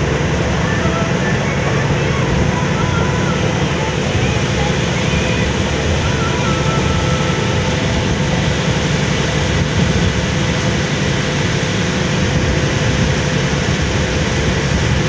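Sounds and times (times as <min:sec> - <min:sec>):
boat drone: 0:00.0 - 0:15.0
faint engine tone: 0:00.0 - 0:15.0
wind buffeting microphone: 0:00.0 - 0:15.0.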